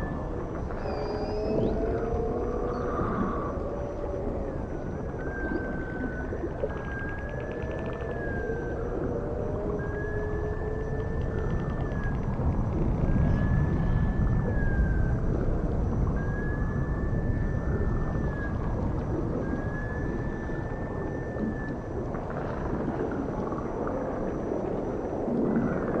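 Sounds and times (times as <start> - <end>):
low rumble of ocean noise: 0.0 - 26.0
whale whistle-like calls: 0.0 - 26.0.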